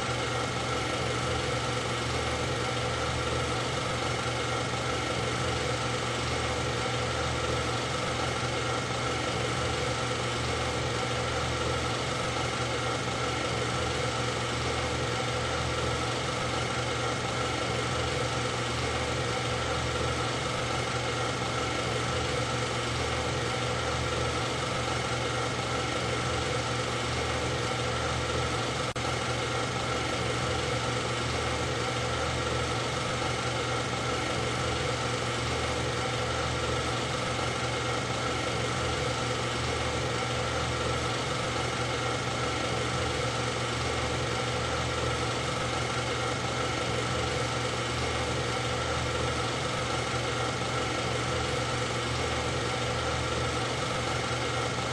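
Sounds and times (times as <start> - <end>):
steady mechanical drone: 0.0 - 54.9.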